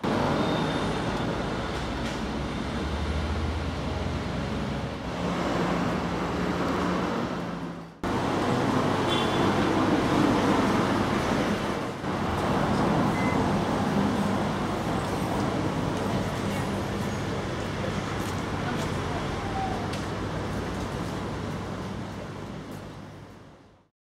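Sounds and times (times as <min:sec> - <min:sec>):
road traffic noise: 0:00.0 - 0:23.9.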